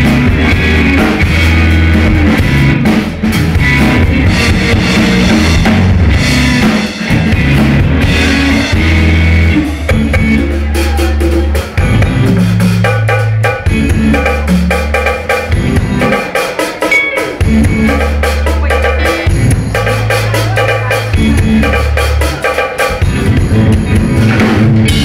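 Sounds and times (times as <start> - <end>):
drum hits: 0.0 - 25.0
live rock band playing: 0.0 - 25.0
sustained bass notes: 0.0 - 25.0.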